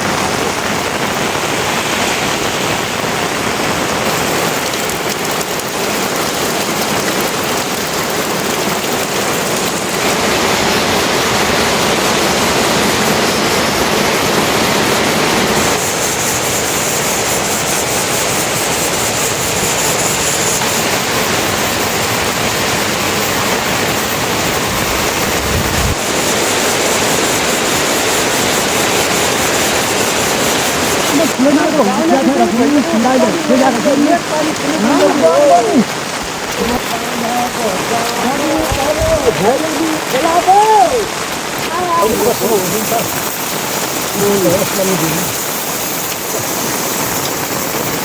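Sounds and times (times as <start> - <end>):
heavy rain: 0.0 - 48.0
rushing water: 0.0 - 48.0.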